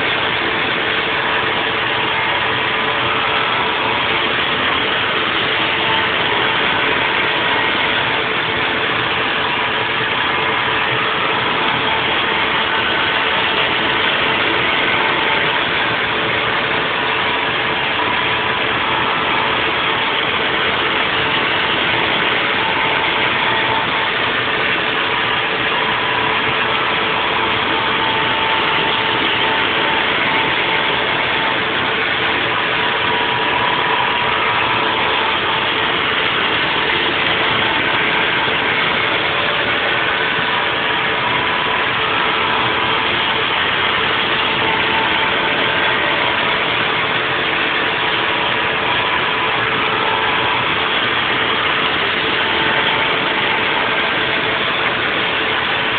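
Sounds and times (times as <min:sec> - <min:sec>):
milling machine hum and whine: 0:00.0 - 0:55.9.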